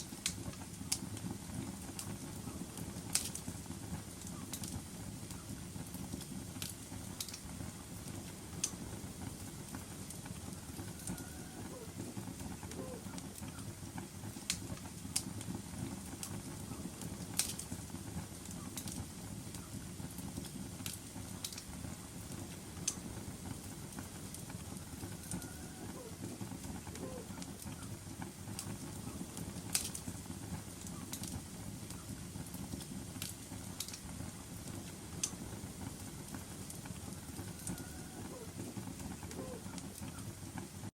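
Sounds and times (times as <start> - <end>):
fire flames rumbling: 0.0 - 40.9
fire popping and snapping: 0.0 - 40.9.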